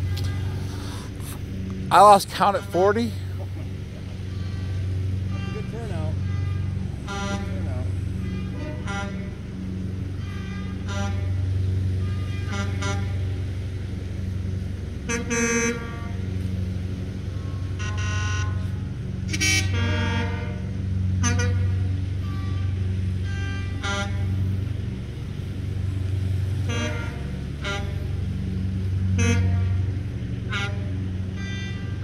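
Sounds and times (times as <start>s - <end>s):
car and truck horns honking: 0.0s - 32.0s
low engine rumble: 0.0s - 32.0s.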